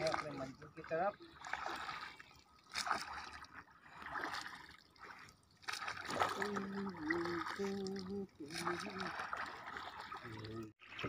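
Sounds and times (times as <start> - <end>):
paddle splashing through water: 0.0 - 11.0.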